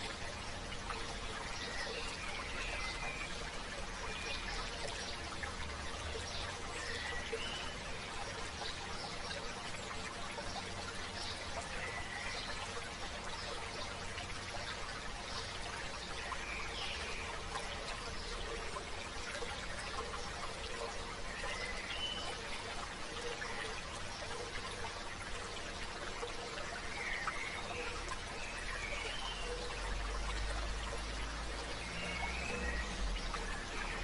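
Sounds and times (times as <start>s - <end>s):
stream flowing over stones: 0.0s - 34.0s.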